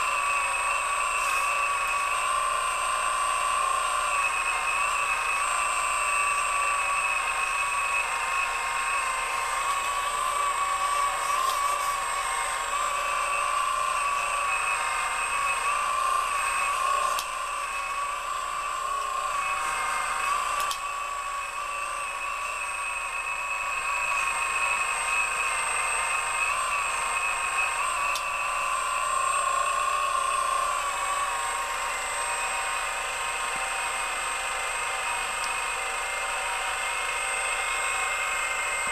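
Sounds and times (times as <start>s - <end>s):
hydraulic pump whine: 0.0s - 38.9s
thin constant high tone: 0.0s - 38.9s.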